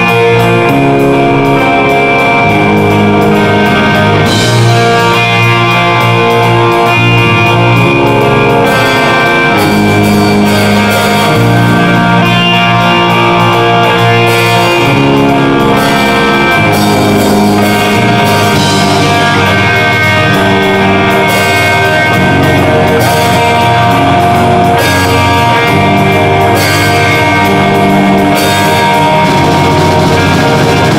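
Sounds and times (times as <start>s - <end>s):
live metal band playing: 0.0s - 30.9s.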